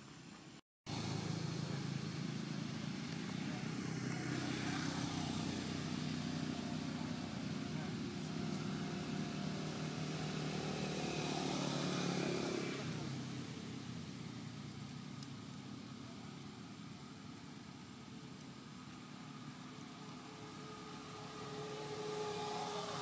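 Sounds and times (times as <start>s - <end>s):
vehicle engine passing by: 0.9s - 23.0s.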